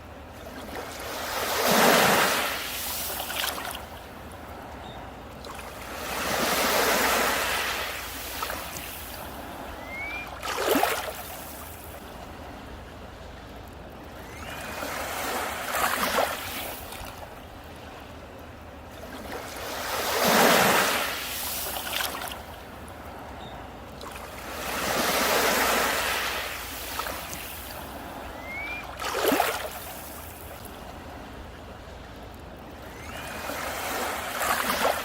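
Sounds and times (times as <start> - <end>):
sea waves breaking on beach: 0.0 - 35.0.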